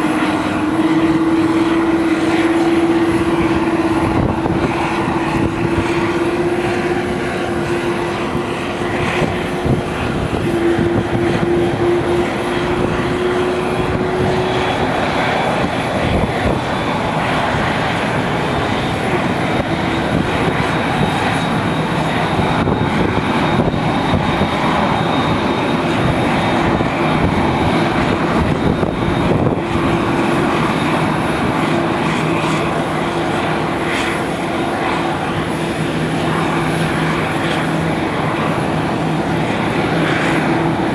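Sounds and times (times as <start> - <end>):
aircraft engines running: 0.0 - 40.9.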